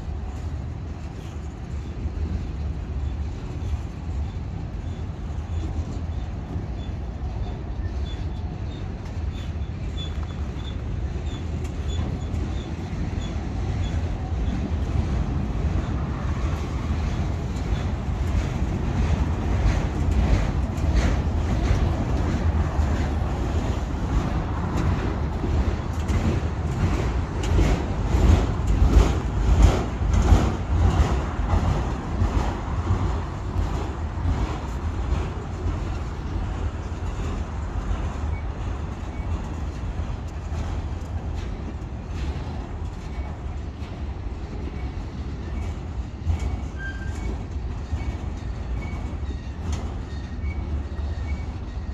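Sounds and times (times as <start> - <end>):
train wheel clacks: 0.0 - 51.9
train wheels rumbling on rail: 0.0 - 51.9.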